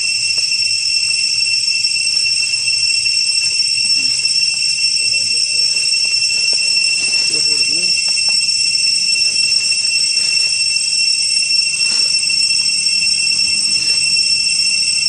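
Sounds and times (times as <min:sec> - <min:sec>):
high-pitched whine: 0:02.2 - 0:15.0.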